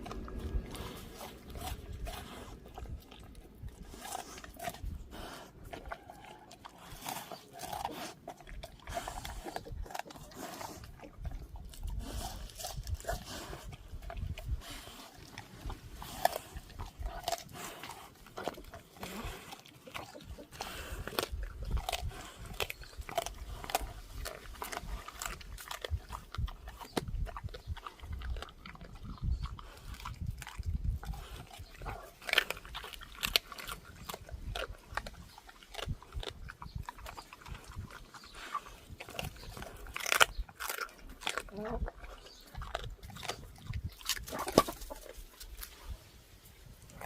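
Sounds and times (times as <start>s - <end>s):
animal crunching watermelon: 0.0s - 47.0s.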